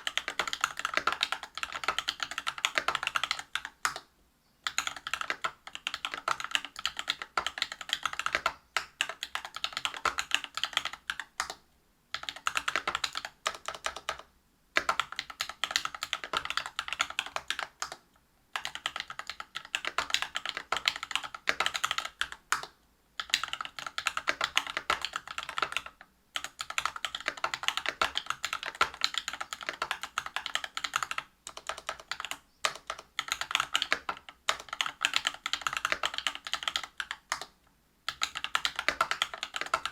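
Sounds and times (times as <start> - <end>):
fast typing on mechanical keyboard: 0.0 - 4.0, 4.6 - 18.0, 18.6 - 37.5, 38.1 - 39.9.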